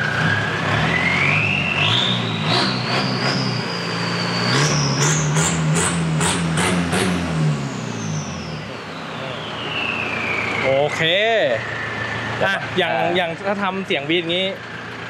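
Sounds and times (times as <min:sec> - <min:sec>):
high turbo whistle: 0:00.0 - 0:13.3
diesel engine revving: 0:00.0 - 0:15.0.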